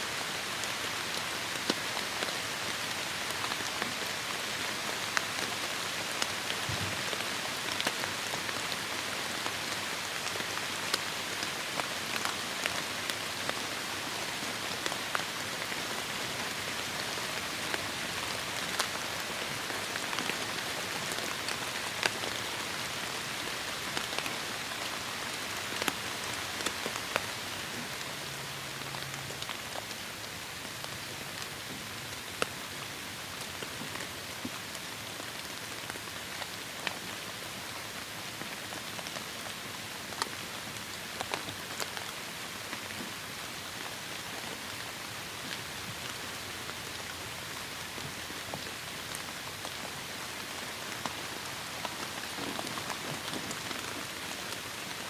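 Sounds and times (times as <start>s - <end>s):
raindrops ticking close by: 0.1s - 55.0s.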